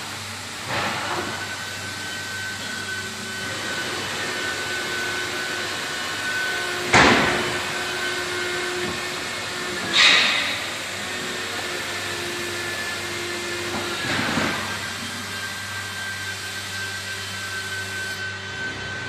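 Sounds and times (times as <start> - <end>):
wood router whirring: 0.0 - 19.0.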